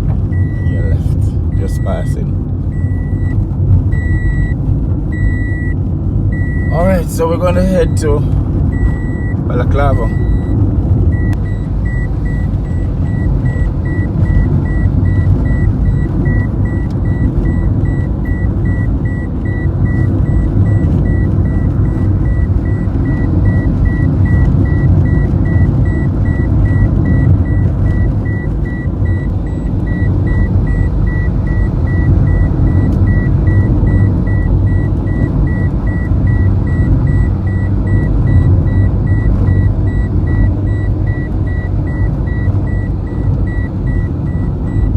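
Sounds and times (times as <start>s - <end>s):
car interior rumble: 0.0s - 44.9s
high electronic beeps: 0.3s - 3.3s, 3.9s - 4.6s, 5.2s - 44.9s.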